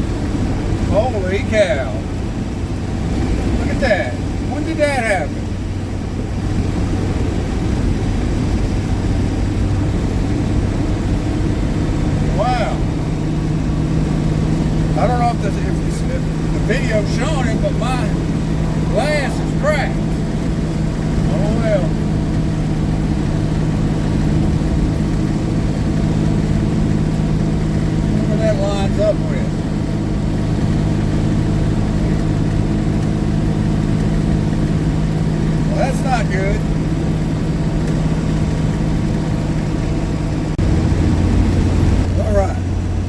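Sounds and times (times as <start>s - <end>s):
road and wind noise: 0.0s - 43.0s
truck engine running: 0.0s - 43.0s.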